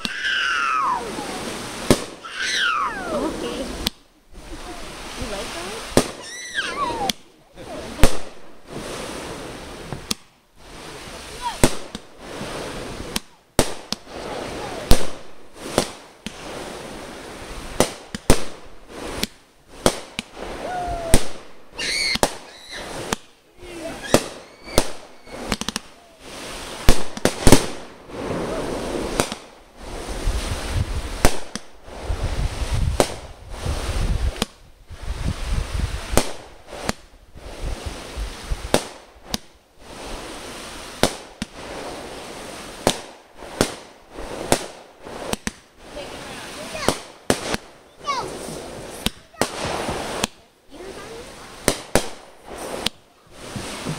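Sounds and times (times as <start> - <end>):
fireworks bangs and pops: 0.0 - 53.9
fireworks crackling: 0.0 - 53.9.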